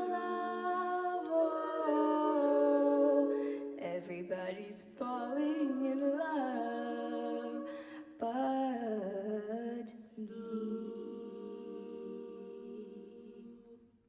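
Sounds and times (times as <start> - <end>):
a cappella group singing: 0.0 - 14.0.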